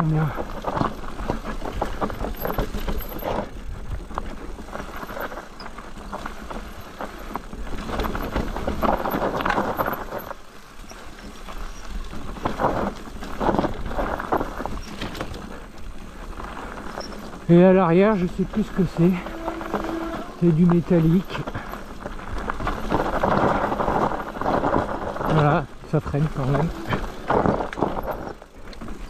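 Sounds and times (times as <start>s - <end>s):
bike clicking and rattling: 0.0s - 29.0s
tyres crunching over gravel: 0.0s - 29.0s.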